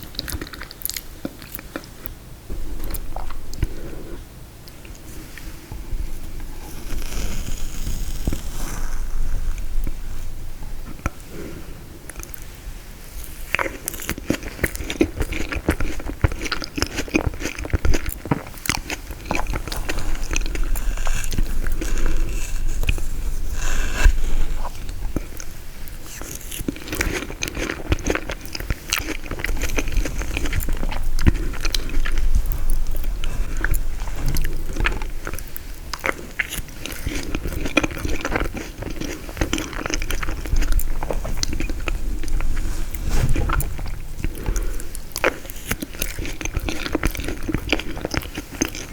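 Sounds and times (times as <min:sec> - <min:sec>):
biting and chewing crunchy food: 0:00.0 - 0:48.9.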